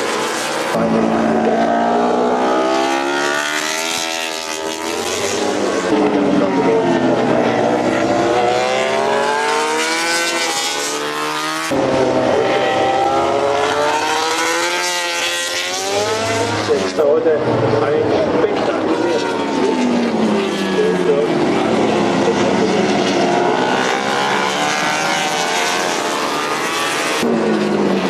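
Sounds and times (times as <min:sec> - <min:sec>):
racing motorcycle engines revving: 0:00.0 - 0:28.0.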